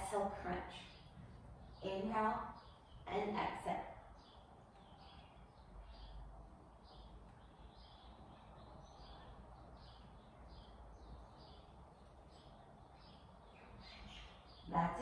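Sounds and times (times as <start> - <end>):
small bird chirping: 0.5 - 15.0.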